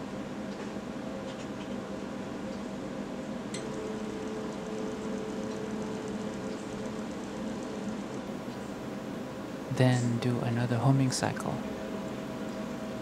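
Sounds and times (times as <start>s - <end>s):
steady hum: 0.0s - 13.0s
stepper motor whine with ticking: 1.8s - 13.0s.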